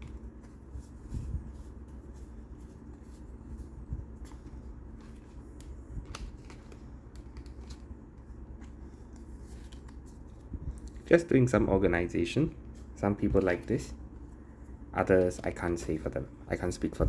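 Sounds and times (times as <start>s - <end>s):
cards rustling: 0.0s - 11.2s, 12.7s - 16.1s.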